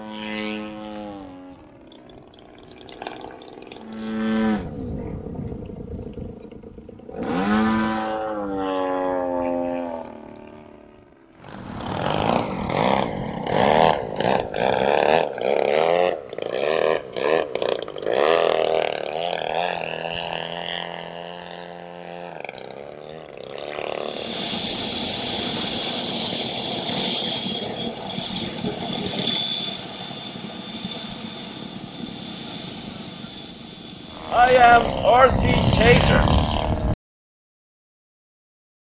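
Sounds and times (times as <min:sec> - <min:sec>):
model jet turbine whine: 0:00.0 - 0:37.0
model plane engine revving: 0:00.0 - 0:37.0.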